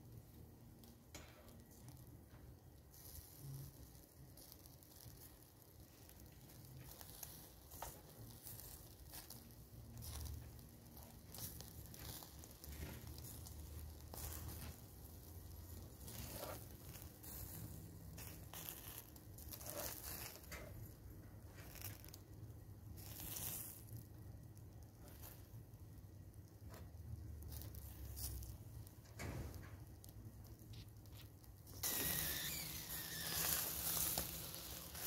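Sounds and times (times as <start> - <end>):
fat crackling and popping: 0.0 - 35.0
meat sizzling over charcoal: 0.0 - 35.0.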